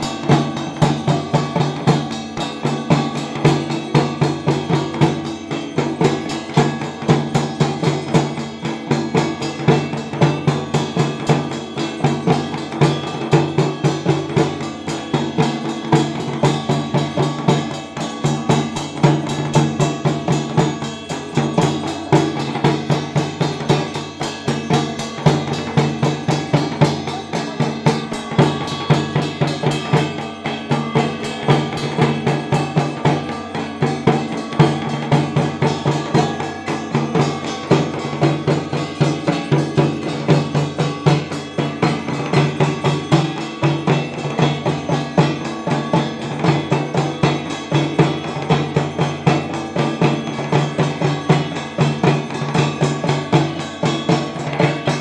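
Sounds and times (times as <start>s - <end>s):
drums beaten in fast rhythm: 0.0s - 55.0s
steady ringing: 0.0s - 55.0s.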